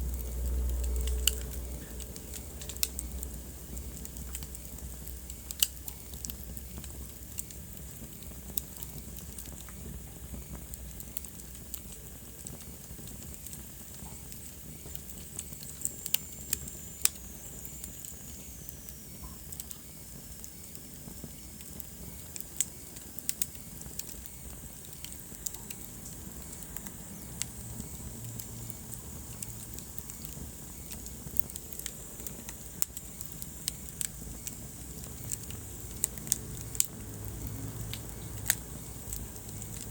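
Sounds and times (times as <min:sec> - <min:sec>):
fire crackles and pops: 0:00.0 - 0:39.9
wood fire rumbling and hissing: 0:00.0 - 0:39.9.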